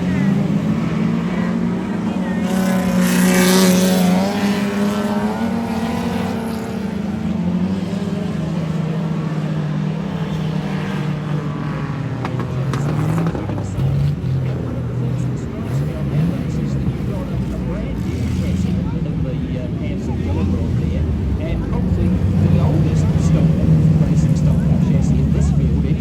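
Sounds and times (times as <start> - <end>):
drone of race car engines: 0.0 - 26.0
race car passing by: 0.0 - 26.0.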